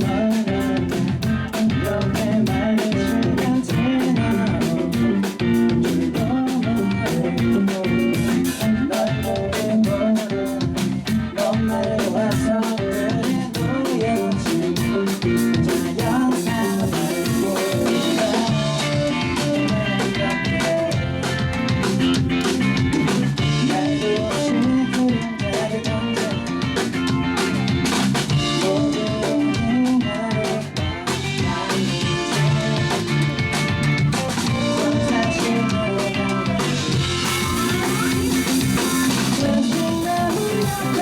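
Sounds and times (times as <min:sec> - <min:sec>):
drum kit with rimshots: 0:00.0 - 0:41.0
rock band playing live: 0:00.0 - 0:41.0
strummed electric guitars: 0:00.0 - 0:41.0.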